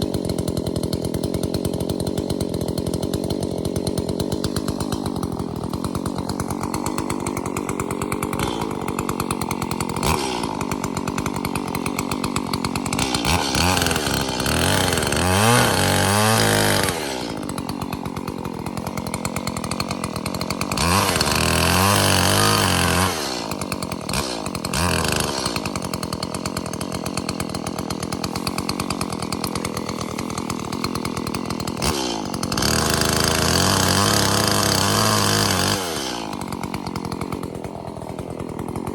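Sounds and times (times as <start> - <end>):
chainsaw running and revving: 0.0 - 38.9.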